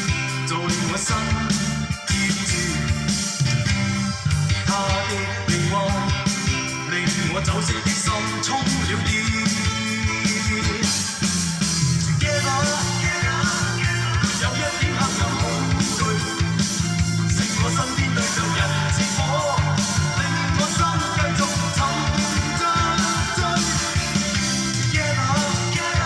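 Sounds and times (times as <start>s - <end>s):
rock band with guitar: 0.0s - 26.0s.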